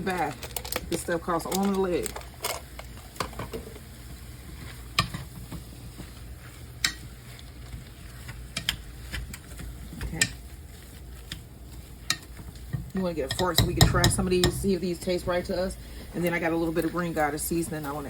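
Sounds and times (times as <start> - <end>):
utensil stirring mashed potatoes: 0.0 - 18.0.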